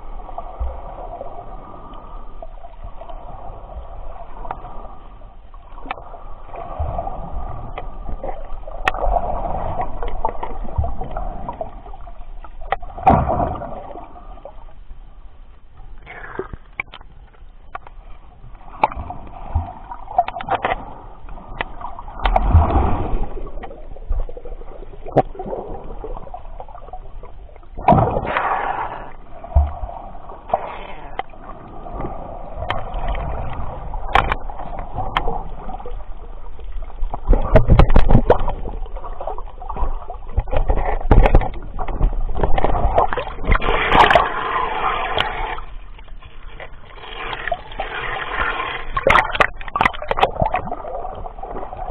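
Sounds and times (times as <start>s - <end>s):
water sloshing and splashing: 0.0s - 14.8s, 16.0s - 51.9s.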